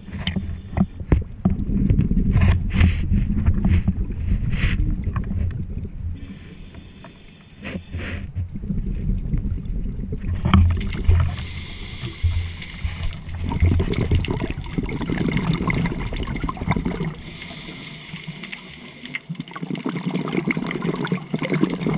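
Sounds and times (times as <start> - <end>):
underwater bubbles gurgling: 0.0 - 21.9.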